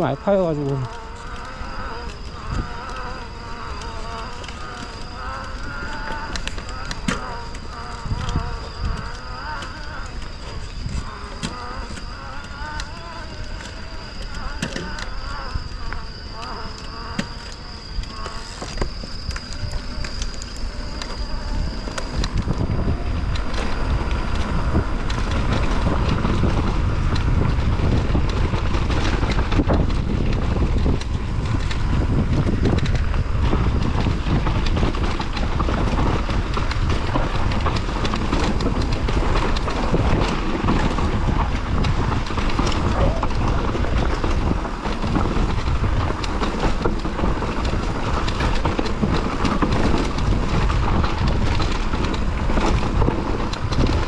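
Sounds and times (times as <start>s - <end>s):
bike tyres crunching over stones: 0.0s - 54.0s
insect trill: 0.0s - 54.0s
wind rumbling on microphone: 0.0s - 54.0s.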